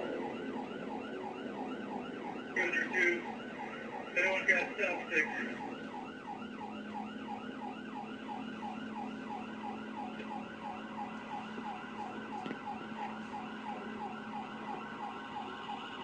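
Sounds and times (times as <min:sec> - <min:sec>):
police siren yelping: 0:00.0 - 0:16.0.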